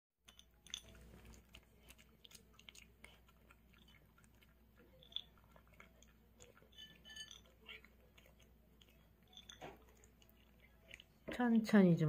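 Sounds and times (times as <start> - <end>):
dog crunching dry kibble: 0.3 - 11.3.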